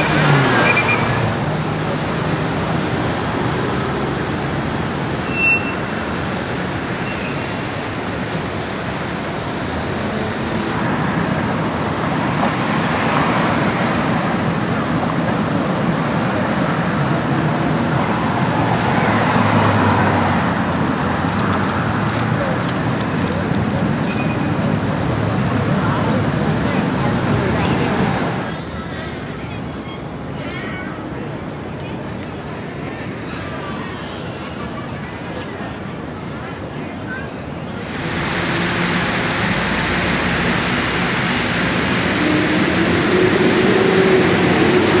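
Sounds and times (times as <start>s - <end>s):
cars passing: 0.0s - 28.7s, 37.6s - 45.0s.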